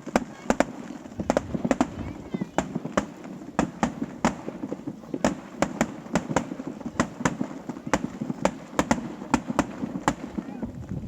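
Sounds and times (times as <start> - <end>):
fireworks bangs and cracks: 0.0 - 11.0
rumble of fireworks bursts: 0.0 - 11.0.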